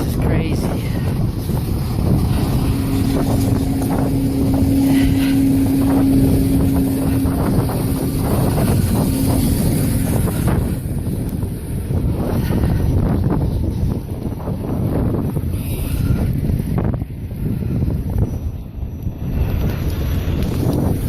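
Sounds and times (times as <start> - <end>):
vehicle engine hum: 0.0 - 21.0
wind buffeting microphone: 0.0 - 21.0.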